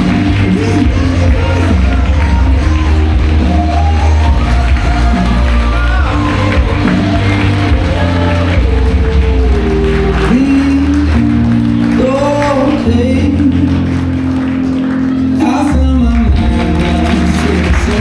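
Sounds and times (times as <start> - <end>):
person singing over bass line: 0.0 - 18.0.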